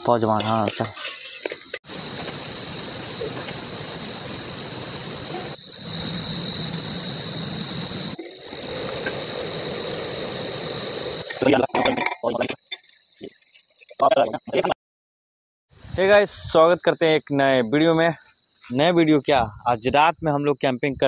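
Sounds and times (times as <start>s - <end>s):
constant hiss: 0.0s - 13.2s, 15.8s - 21.0s
night insects trilling: 0.0s - 14.8s, 15.8s - 21.0s.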